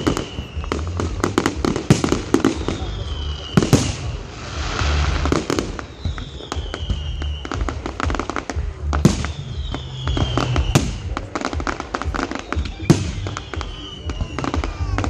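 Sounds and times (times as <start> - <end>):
falling firework whistle: 0.0 - 7.9, 9.1 - 11.2, 12.1 - 15.0
firework bangs and crackles: 0.0 - 15.0.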